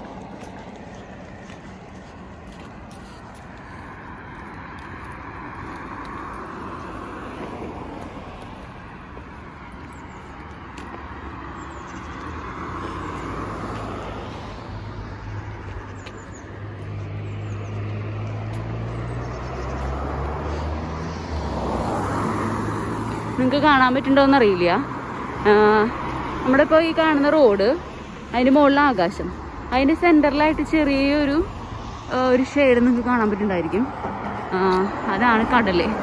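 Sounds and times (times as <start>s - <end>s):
cars passing: 0.0s - 36.0s.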